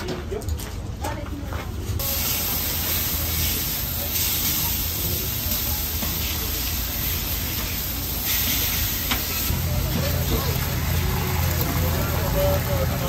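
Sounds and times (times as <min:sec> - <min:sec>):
steak sizzling on a griddle: 0:02.0 - 0:13.0.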